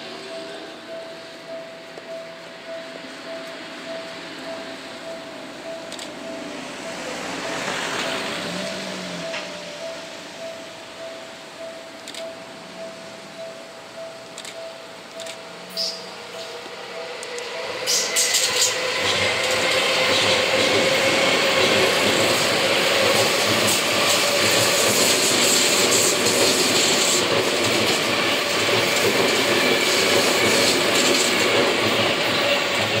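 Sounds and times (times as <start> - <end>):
faint train whine: 0.0 - 33.0
train wheels rumbling on rail: 0.0 - 33.0.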